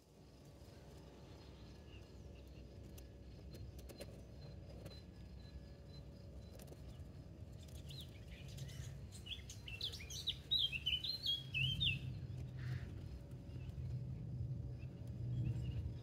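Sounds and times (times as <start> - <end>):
low background rumble: 0.0 - 16.0
songbird chirping: 1.0 - 16.0.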